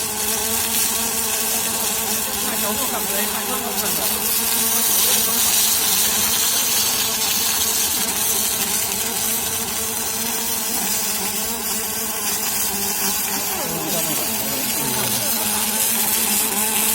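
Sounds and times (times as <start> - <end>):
laser welding machine hissing: 0.0 - 16.9.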